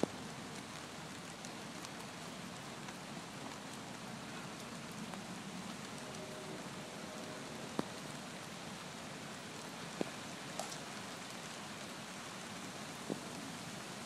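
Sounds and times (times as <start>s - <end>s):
rain on wet pavement: 0.0s - 14.0s.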